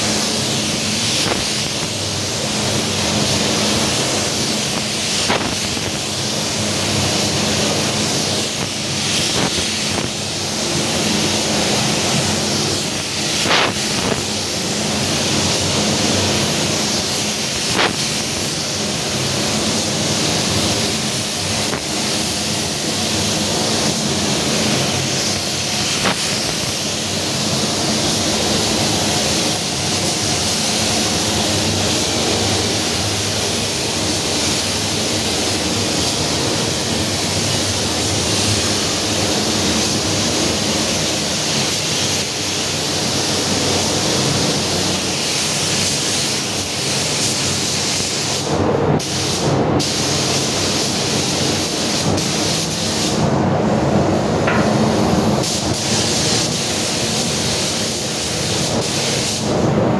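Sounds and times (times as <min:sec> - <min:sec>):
paint spray gun hissing: 0:00.0 - 0:53.2, 0:53.9 - 0:59.6.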